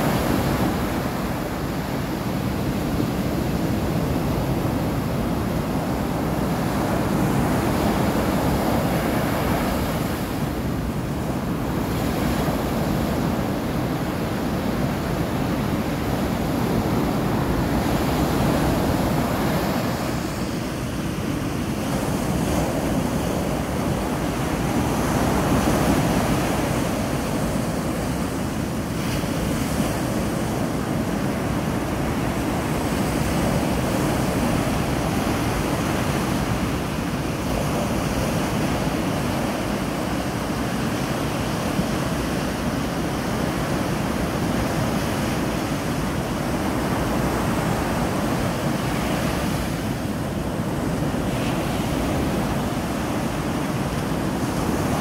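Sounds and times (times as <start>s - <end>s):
ocean surf breaking on beach: 0.0s - 55.0s
wind buffeting microphone: 0.0s - 55.0s.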